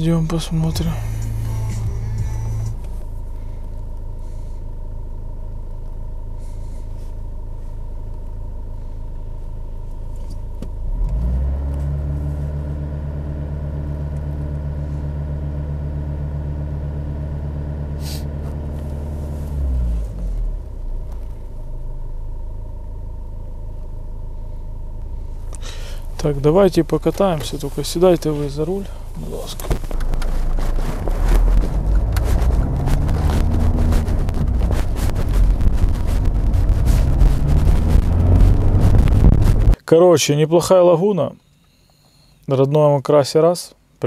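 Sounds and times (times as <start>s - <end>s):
diesel engine idling and revving: 0.0s - 39.8s.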